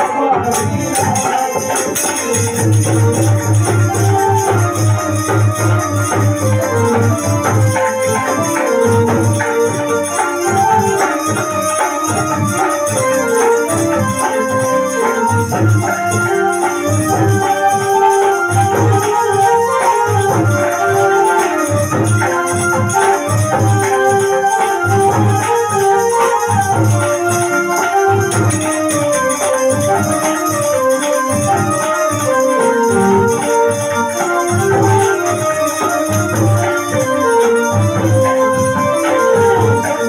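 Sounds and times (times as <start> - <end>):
harmonium playing devotional melody: 0.0 - 40.0.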